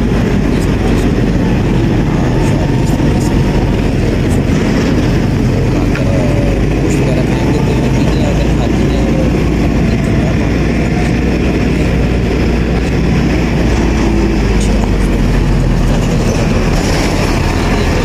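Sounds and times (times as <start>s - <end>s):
vehicle engine and road noise: 0.0s - 18.0s
wind rumble on microphone: 0.0s - 18.0s.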